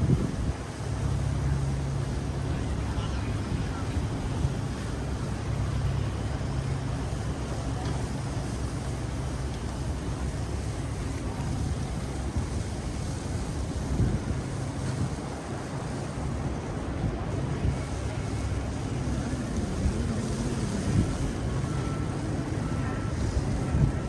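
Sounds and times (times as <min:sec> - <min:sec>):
low traffic rumble: 0:00.0 - 0:24.0
wind buffeting microphone: 0:00.0 - 0:24.0.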